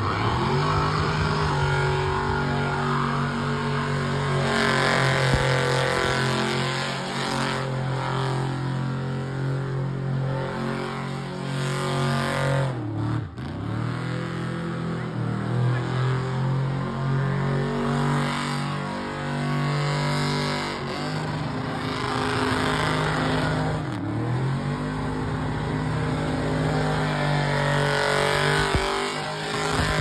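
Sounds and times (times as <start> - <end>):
car engine revving hard: 0.0 - 30.0.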